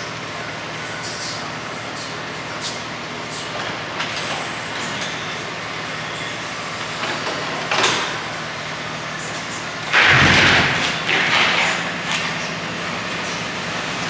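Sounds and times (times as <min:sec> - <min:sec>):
small diesel engine clattering: 0:00.0 - 0:14.0.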